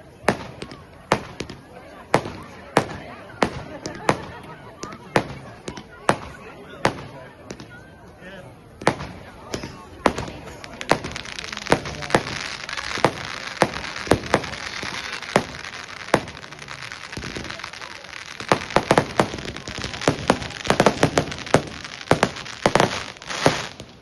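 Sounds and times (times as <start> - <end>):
fireworks bangs and crackles: 0.0 - 8.0, 8.6 - 24.0.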